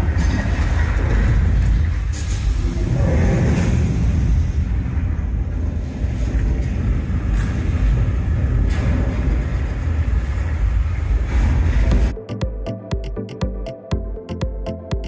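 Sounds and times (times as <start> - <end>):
deep earthquake rumbling: 0.0 - 12.2.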